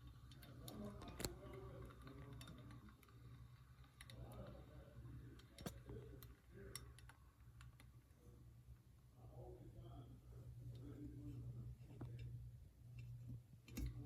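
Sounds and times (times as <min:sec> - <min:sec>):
faint clicks and taps: 0:00.0 - 0:08.1, 0:10.7 - 0:14.0
steady low hum: 0:00.0 - 0:14.0
faint muffled voices: 0:00.2 - 0:07.2, 0:08.0 - 0:12.6.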